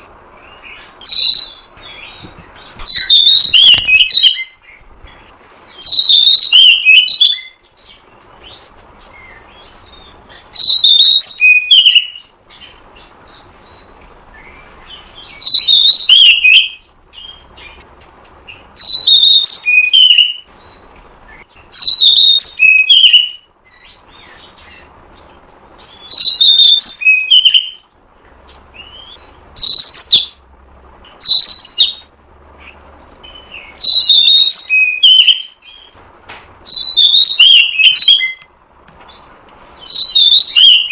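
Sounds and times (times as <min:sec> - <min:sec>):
bird singing whistled phrases: 0:00.4 - 0:04.8, 0:05.5 - 0:17.8, 0:18.5 - 0:24.9, 0:25.8 - 0:27.8, 0:28.7 - 0:30.4, 0:31.2 - 0:32.1, 0:33.2 - 0:35.9, 0:36.6 - 0:38.5, 0:39.7 - 0:40.9.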